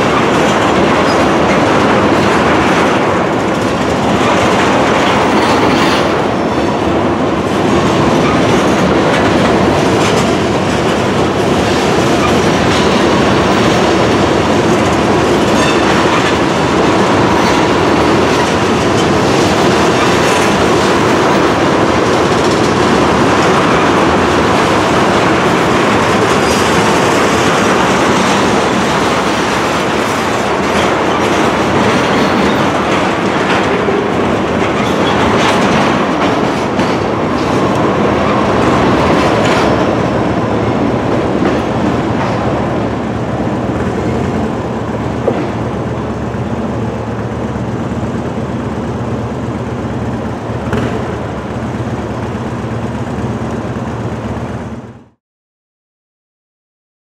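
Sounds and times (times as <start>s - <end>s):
wheels clicking over rail joints: 0.0s - 54.8s
freight train rolling past: 0.0s - 55.2s.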